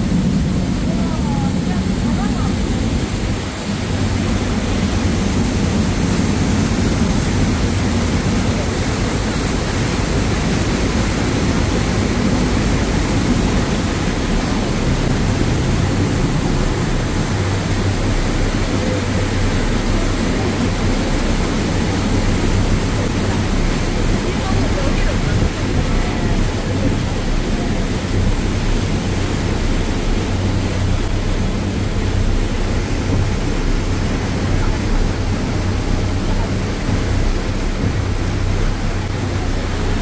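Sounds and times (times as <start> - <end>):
ferry engines droning: 0.0 - 40.0
water rushing past hull: 0.0 - 40.0.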